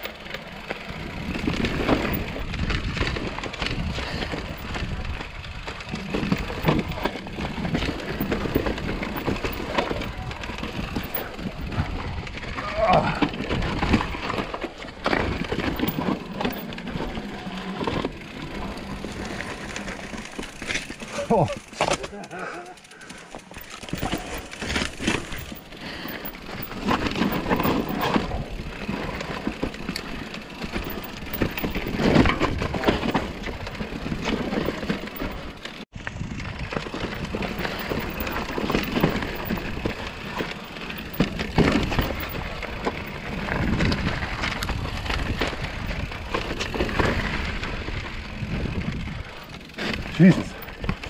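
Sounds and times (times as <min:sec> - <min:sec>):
bike knocking and rattling: 0:00.0 - 0:51.0
bike tyres crunching on gravel: 0:00.0 - 0:51.0.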